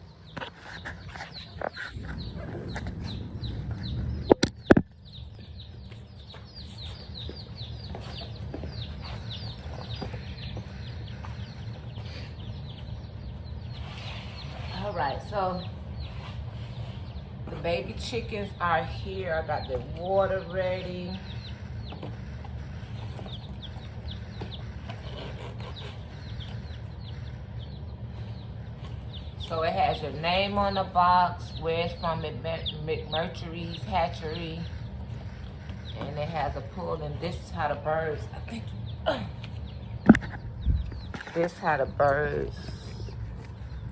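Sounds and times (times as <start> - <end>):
baby chicks peeping: 0.0 - 43.9
low steady hum: 0.0 - 43.9.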